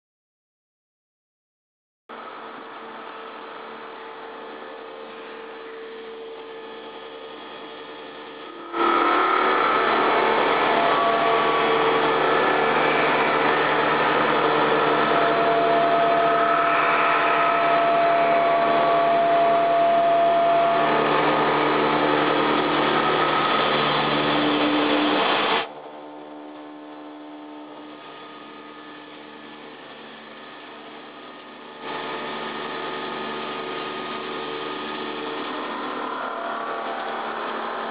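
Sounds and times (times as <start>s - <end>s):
held whining tones: 2.1s - 37.9s
milling machine cutting steel: 2.1s - 37.9s.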